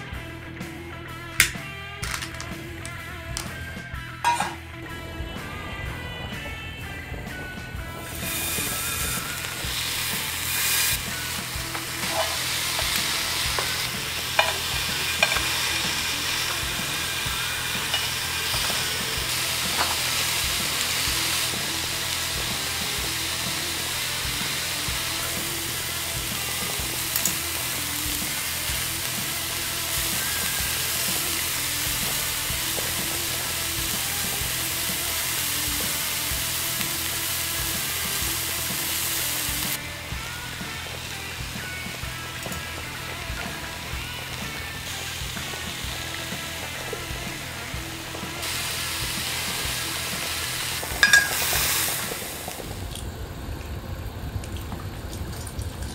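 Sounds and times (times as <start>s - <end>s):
meat sizzling on a grill pan: 8.0s - 52.8s.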